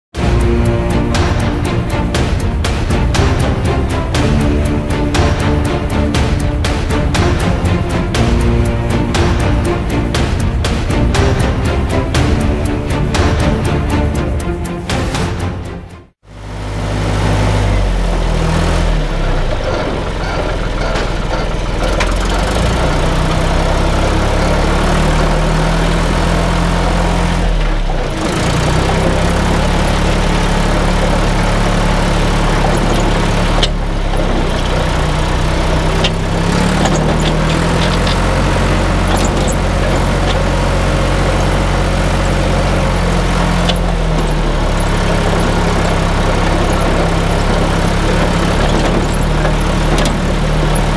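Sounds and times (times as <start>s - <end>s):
tractor engine running: 0.1s - 50.9s.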